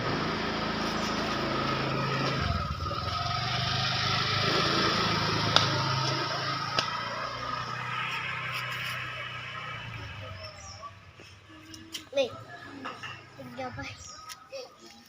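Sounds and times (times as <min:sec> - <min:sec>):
small engine running: 0:00.0 - 0:14.1.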